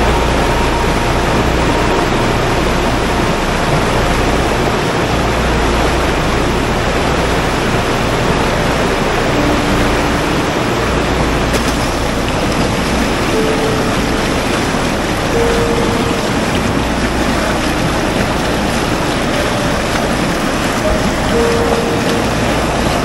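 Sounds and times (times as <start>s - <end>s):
river rapids roaring: 0.0s - 23.0s.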